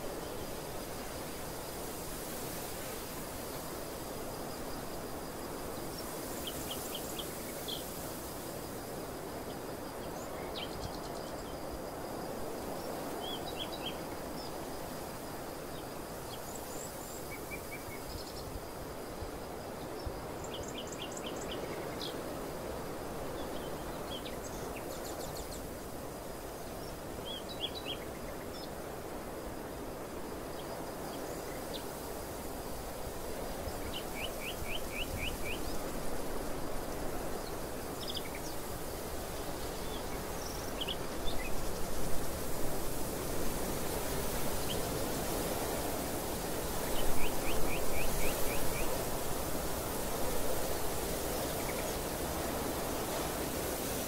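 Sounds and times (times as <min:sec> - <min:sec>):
wind blowing through field: 0:00.0 - 0:54.0.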